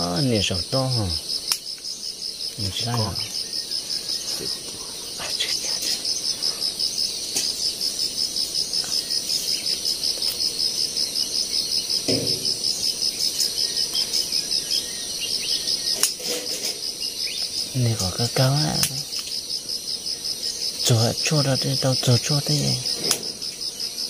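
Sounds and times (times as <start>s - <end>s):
insect chirping: 0.0s - 24.0s.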